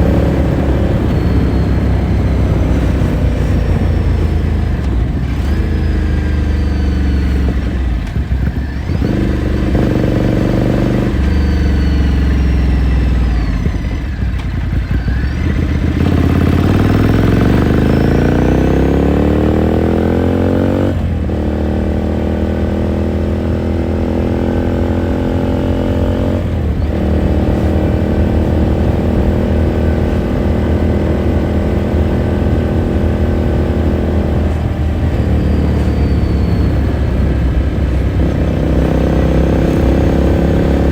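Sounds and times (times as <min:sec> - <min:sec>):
motorcycle engine while riding: 0:00.0 - 0:40.9.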